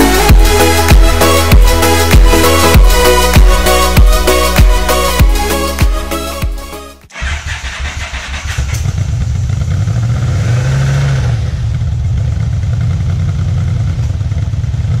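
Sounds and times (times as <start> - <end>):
motorcycle engine running: 0.0 - 5.5, 7.2 - 15.0.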